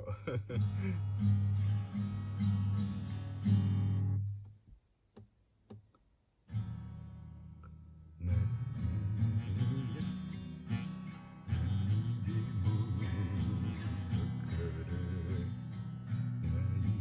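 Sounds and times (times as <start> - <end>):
acoustic guitar playing: 0.3 - 4.5, 6.5 - 17.0.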